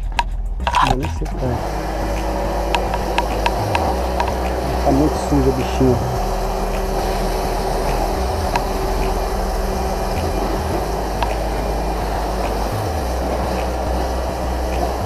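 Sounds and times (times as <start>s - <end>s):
pressure washer pump humming: 0.6s - 15.0s
water jet spraying: 0.6s - 15.0s.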